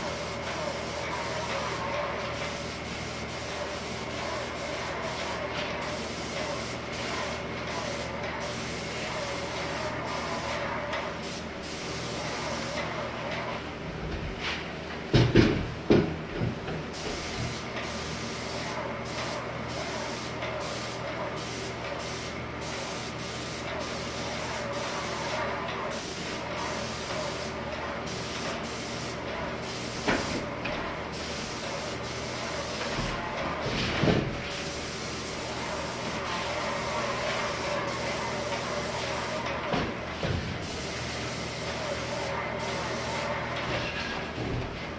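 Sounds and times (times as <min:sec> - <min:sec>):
paint sprayer gun hissing: 0:00.0 - 0:12.9, 0:17.0 - 0:30.5, 0:31.1 - 0:33.0, 0:34.5 - 0:39.8, 0:40.6 - 0:43.4.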